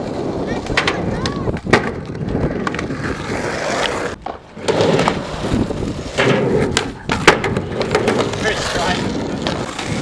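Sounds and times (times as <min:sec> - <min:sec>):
skateboard clacks: 0:00.0 - 0:10.0
skateboard wheels rolling on concrete: 0:00.0 - 0:10.0.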